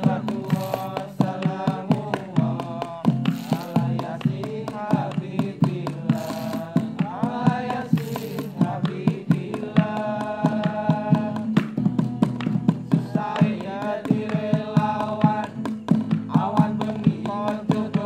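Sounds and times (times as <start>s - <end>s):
acoustic guitar: 0.0s - 18.0s
men singing together: 0.0s - 18.0s
plastic container hand drum: 0.0s - 18.0s.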